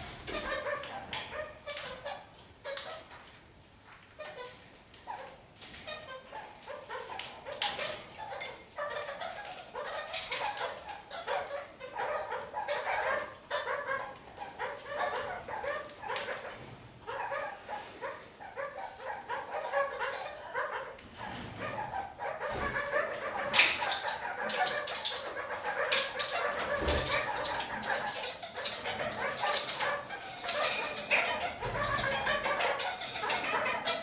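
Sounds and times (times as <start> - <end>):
parakeets chattering and calling: 0.0 - 3.3, 3.9 - 34.0.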